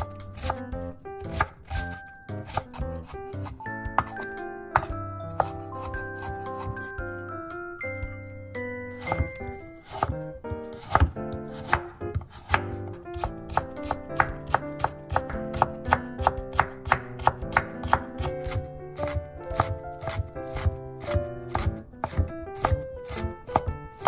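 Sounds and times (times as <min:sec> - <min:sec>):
knife chopping on wooden board: 0:00.0 - 0:07.3, 0:08.9 - 0:24.0
light background music: 0:00.0 - 0:24.0.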